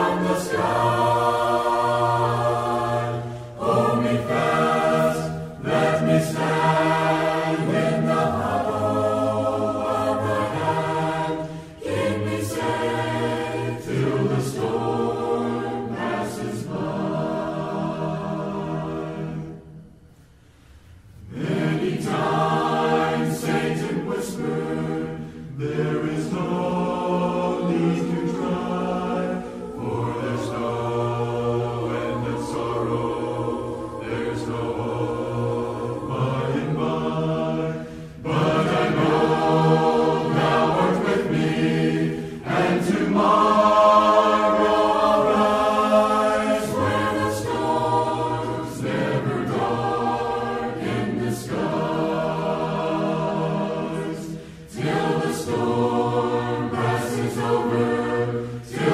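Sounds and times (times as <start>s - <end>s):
choir singing: 0.0s - 58.9s.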